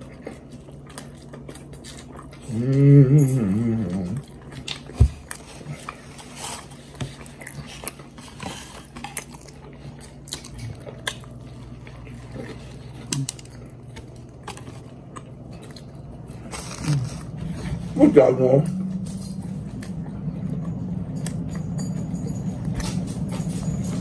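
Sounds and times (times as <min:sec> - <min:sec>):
chewing and biting: 0:00.0 - 0:24.0
low steady hum: 0:00.0 - 0:24.0.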